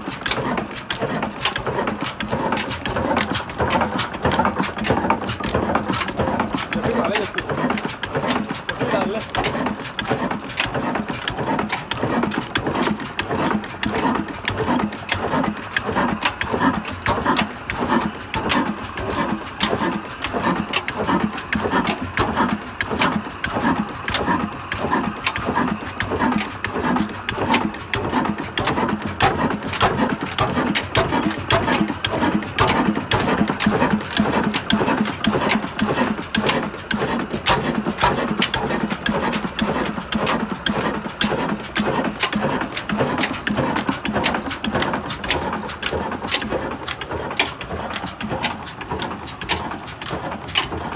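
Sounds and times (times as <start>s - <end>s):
stationary diesel engine running: 0.0s - 50.9s.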